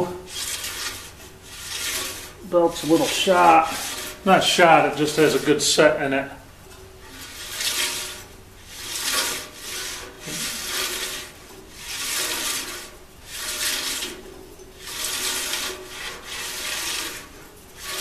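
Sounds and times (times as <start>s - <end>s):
belt and pulleys swishing: 0.0s - 5.5s, 6.7s - 18.0s.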